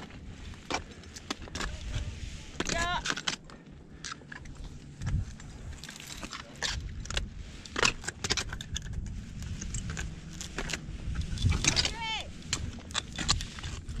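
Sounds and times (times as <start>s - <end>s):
scraping on rock: 0.0s - 14.0s
metal carabiners clinking: 2.6s - 14.0s.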